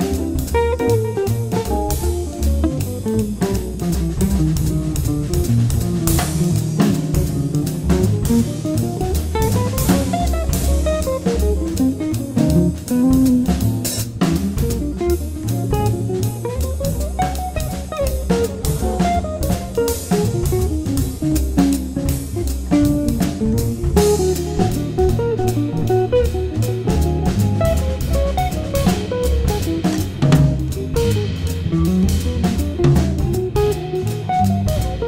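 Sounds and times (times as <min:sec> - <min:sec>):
bass: 0:00.0 - 0:35.0
drum kit: 0:00.0 - 0:35.0
jazz guitar melody: 0:00.0 - 0:35.0.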